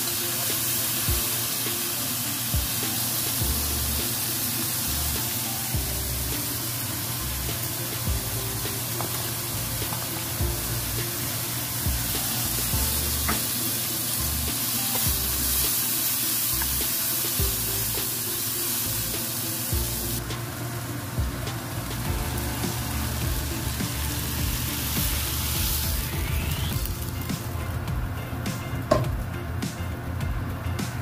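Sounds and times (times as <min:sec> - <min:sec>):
background music: 0:00.0 - 0:31.0
food sizzling in wok: 0:00.0 - 0:31.0.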